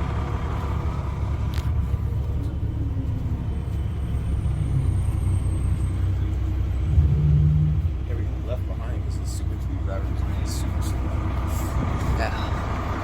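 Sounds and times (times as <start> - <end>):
diesel bus exhaust rumble: 0.0 - 13.0.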